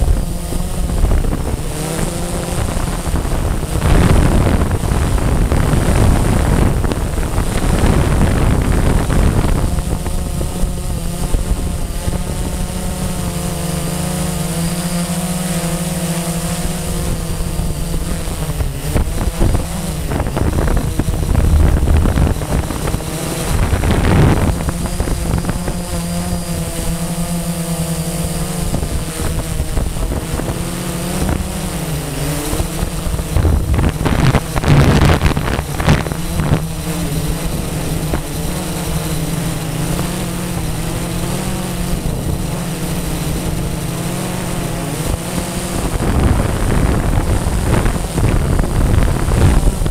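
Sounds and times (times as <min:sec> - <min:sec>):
drone propellers whining: 0:00.0 - 0:49.9
wind buffeting microphone: 0:00.0 - 0:49.9.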